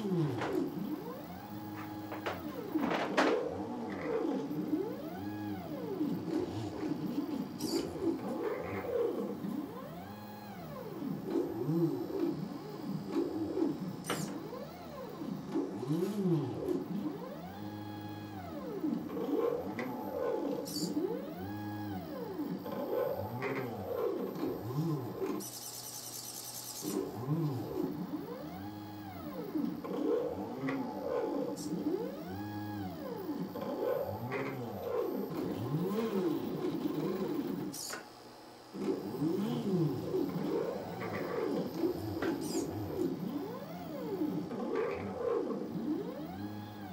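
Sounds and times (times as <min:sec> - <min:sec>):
stepper motors whining: 0:00.0 - 0:46.9.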